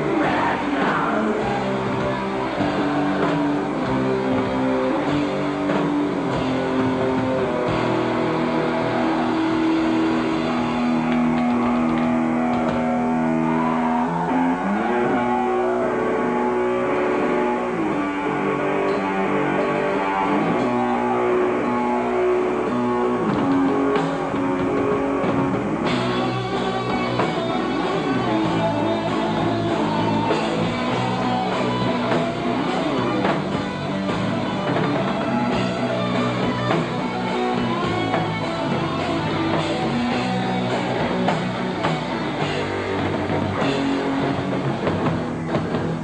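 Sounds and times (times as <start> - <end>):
rock band electric guitars and bass: 0.0 - 46.0.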